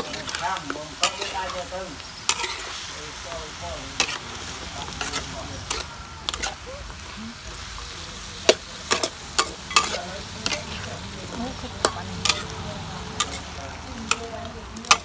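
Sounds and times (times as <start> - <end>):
metal ladle scraping a wok: 0.0 - 7.9, 8.5 - 15.0
meat sizzling in a wok: 0.0 - 15.0.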